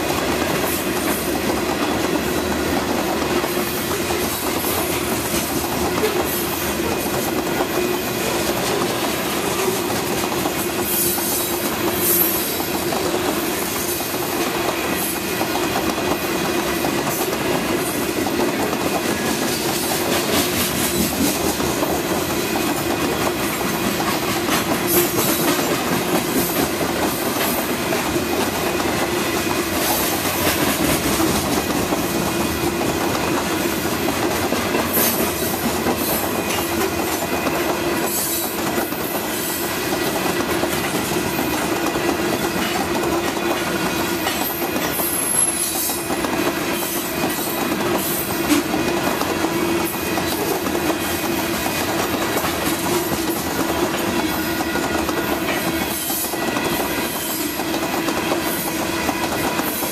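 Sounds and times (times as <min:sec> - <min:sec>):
freight train rolling past: 0:00.0 - 0:59.9
wheels clicking over rail joints: 0:00.0 - 0:59.9.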